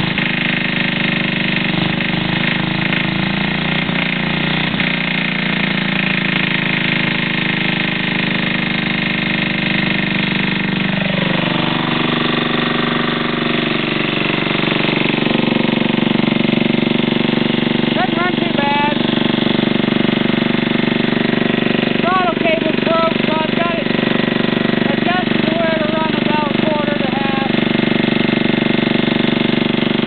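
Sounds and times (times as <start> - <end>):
engine knocking: 0.0 - 30.0
single-cylinder engine running: 0.0 - 30.0.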